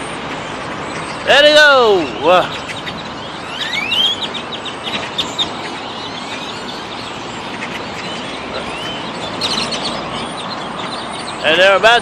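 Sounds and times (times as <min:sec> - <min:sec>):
flock of birds chirping: 0:00.0 - 0:12.0
traffic noise: 0:00.0 - 0:12.0.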